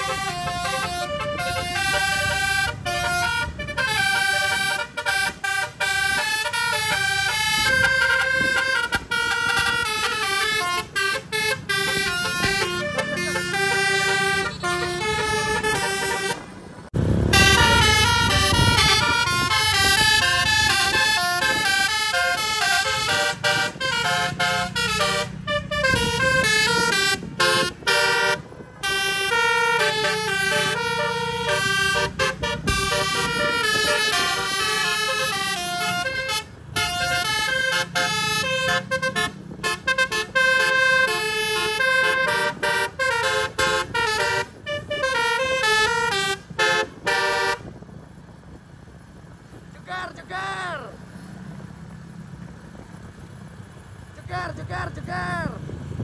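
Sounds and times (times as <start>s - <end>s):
multi-tone bus air horn tune: 0.0s - 16.6s, 17.3s - 47.8s
engine hum: 0.0s - 56.0s.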